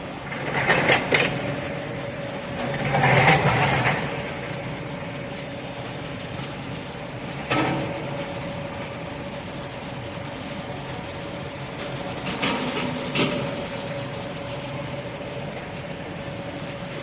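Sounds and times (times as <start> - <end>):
dishwashing machinery hum: 0.0 - 17.0.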